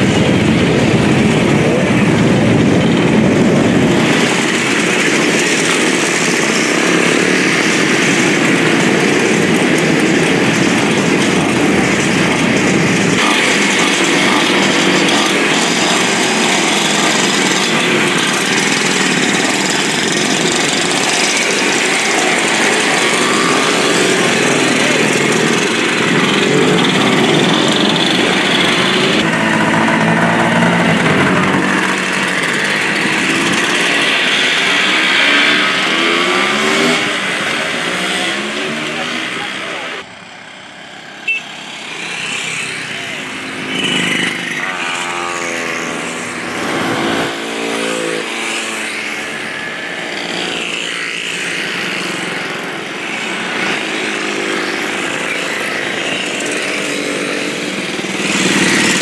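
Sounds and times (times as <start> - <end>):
scooter and motorcycle engines revving: 0.0 - 59.0.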